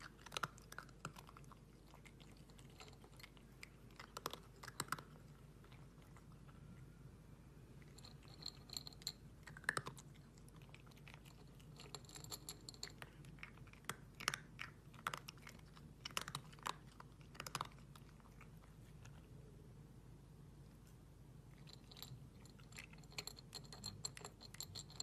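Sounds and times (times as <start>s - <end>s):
cat crunching dry kibble: 0.0s - 6.6s, 7.8s - 19.3s, 21.5s - 25.0s.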